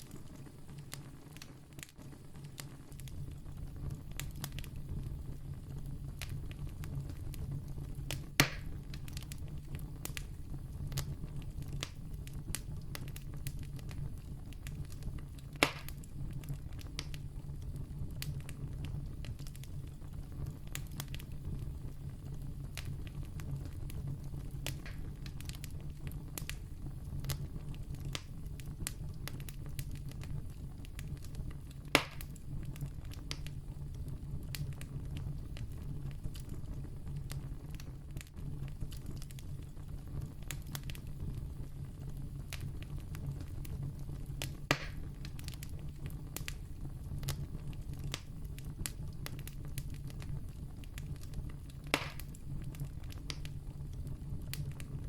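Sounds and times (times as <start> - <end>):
burning wood crackling and popping: 0.0 - 55.0
campfire flames rumbling: 0.0 - 55.0.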